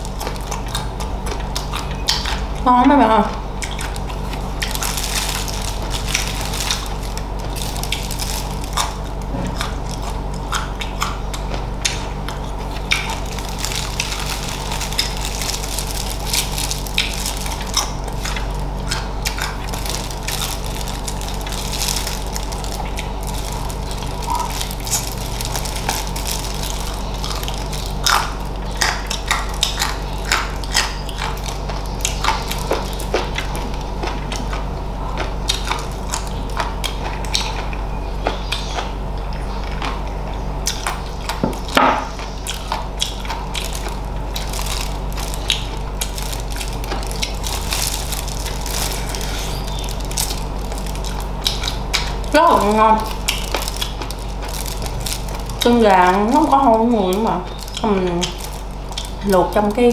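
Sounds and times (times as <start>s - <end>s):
chewing and crunching food: 0.0s - 59.9s
low hum: 0.0s - 59.9s.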